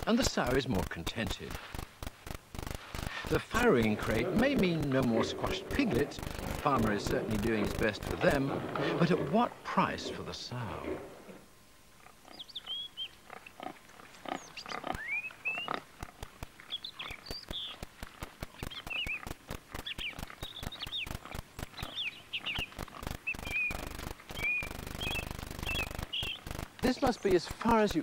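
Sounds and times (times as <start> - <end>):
pigs rooting through litter: 0.0 - 11.4, 13.3 - 28.0
birds chirping: 0.0 - 28.0.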